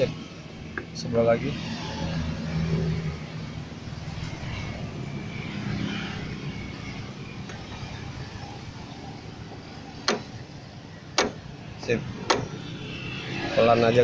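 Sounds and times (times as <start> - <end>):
outdoor background drone: 0.0 - 14.0.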